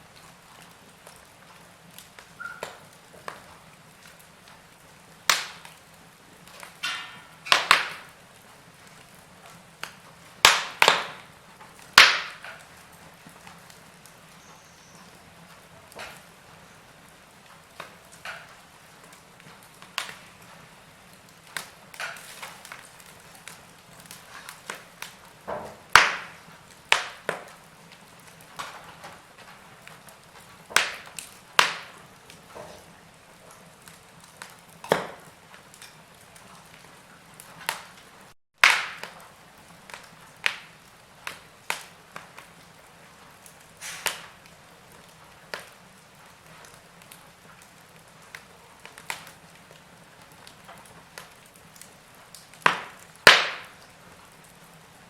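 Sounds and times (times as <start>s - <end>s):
faint steady hiss: 0.0s - 55.0s
log fire crackling: 0.0s - 55.0s.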